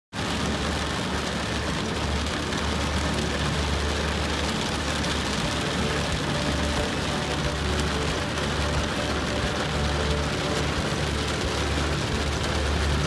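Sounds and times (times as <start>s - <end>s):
car road and engine rumble: 0.1s - 13.0s
heavy rain on car windshield: 0.1s - 13.0s.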